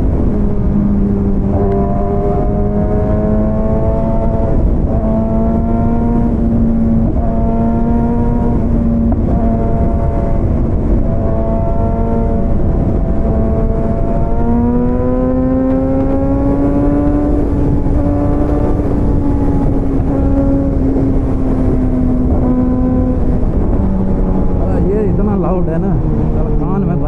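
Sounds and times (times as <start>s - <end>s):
motorcycle engine running: 0.0s - 27.0s
wind noise: 0.0s - 27.0s.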